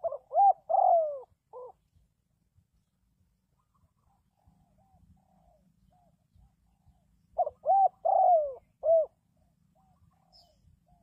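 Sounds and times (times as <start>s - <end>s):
dove cooing: 0.0s - 1.8s, 3.6s - 11.0s.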